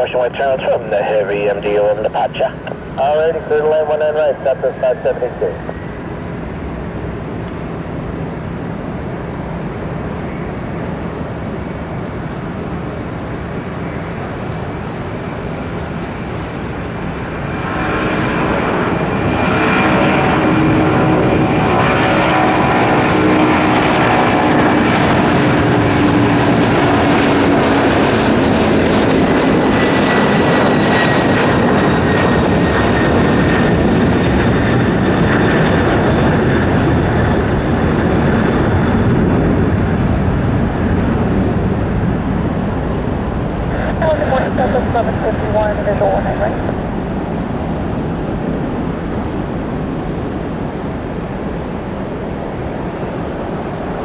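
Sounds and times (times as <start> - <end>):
high fan whine: 0.0 - 54.0
jet engine rumble: 0.0 - 54.0.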